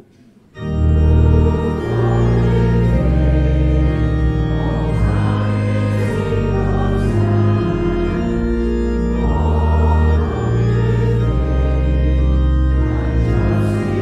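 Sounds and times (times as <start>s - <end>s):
organ playing hymn chords: 0.5s - 14.0s.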